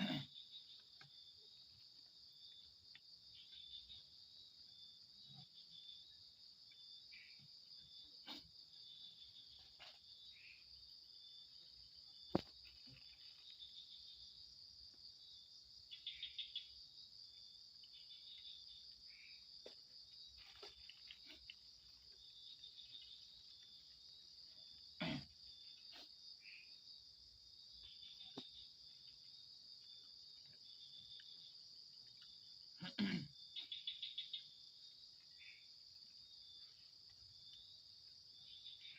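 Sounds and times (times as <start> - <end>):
crickets trilling: 0.0 - 38.9
insects chirping: 0.0 - 38.9.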